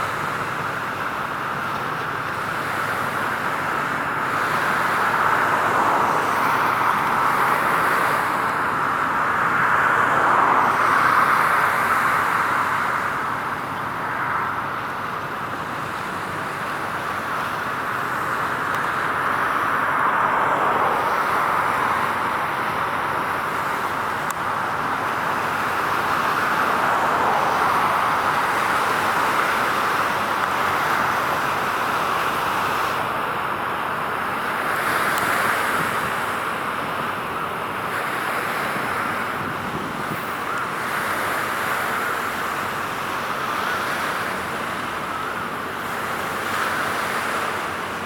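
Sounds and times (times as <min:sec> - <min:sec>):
distant road traffic hum: 0:00.0 - 0:48.0.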